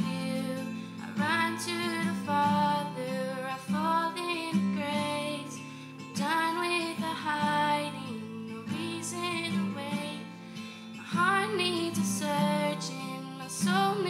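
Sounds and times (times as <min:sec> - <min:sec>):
acoustic guitar: 0:00.0 - 0:14.0
woman singing: 0:00.0 - 0:14.0.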